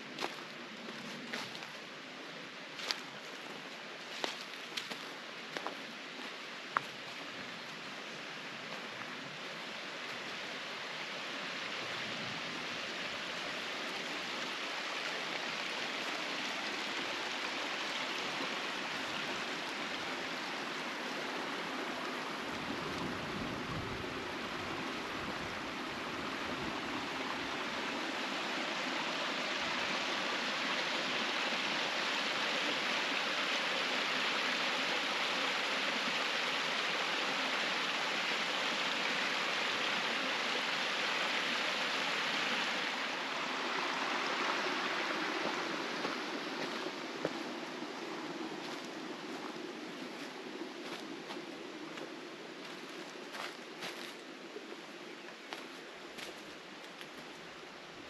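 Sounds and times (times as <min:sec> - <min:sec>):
water rushing in a canal: 0:00.0 - 0:58.0.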